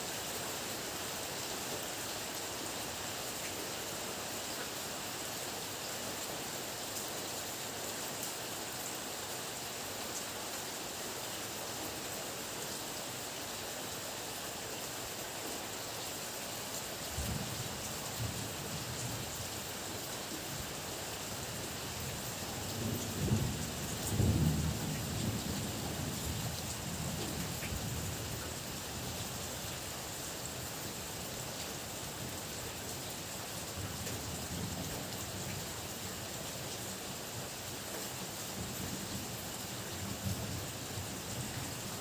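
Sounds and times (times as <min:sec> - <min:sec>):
heavy rain pouring: 0:07.7 - 0:42.0.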